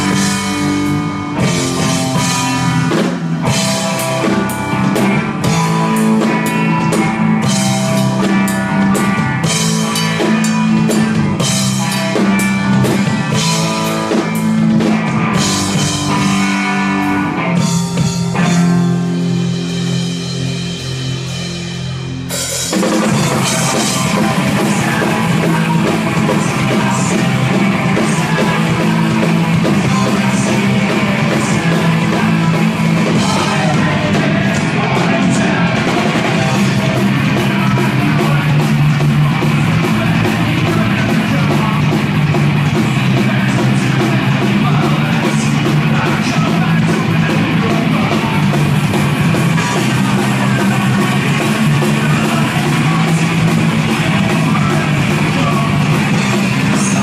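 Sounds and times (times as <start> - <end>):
rock band playing loud: 0.0 - 57.0.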